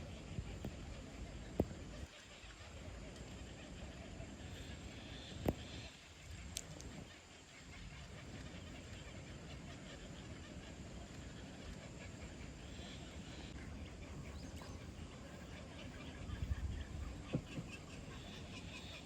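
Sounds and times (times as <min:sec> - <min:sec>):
faint bird calls: 0:00.0 - 0:19.0
outdoor background noise: 0:00.0 - 0:19.0.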